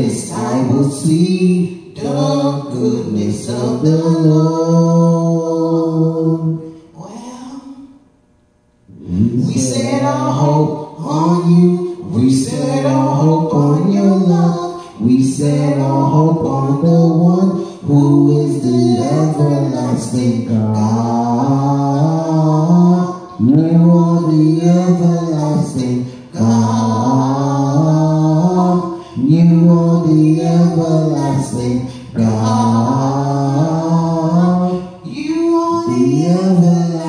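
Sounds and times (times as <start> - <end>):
man and woman singing: 0.0 - 7.9, 9.0 - 37.0.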